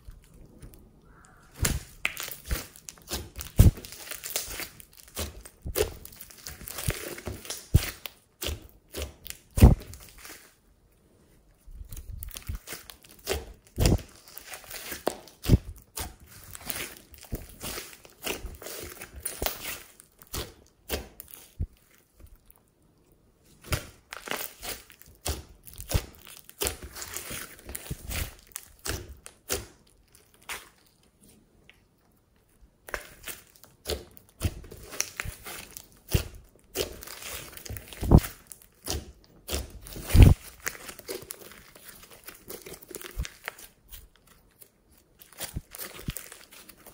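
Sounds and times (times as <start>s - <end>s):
slime crackling and popping: 0.0s - 10.6s, 11.8s - 22.6s, 23.6s - 31.7s, 32.8s - 46.9s.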